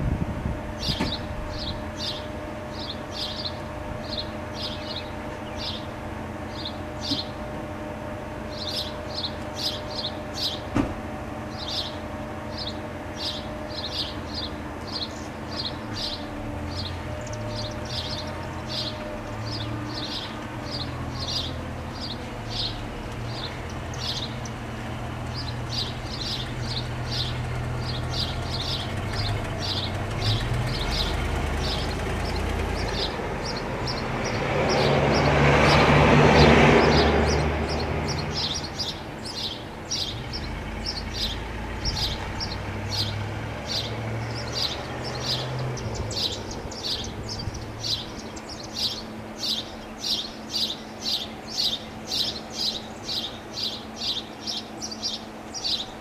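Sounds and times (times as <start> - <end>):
birds chirping: 0.6 - 56.0.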